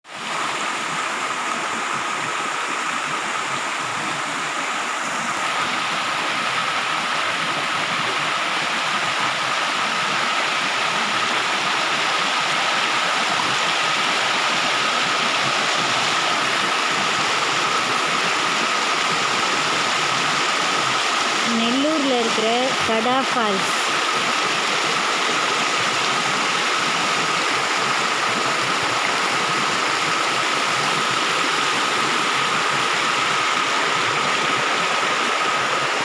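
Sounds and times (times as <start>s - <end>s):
waterfall rushing: 0.1s - 36.0s.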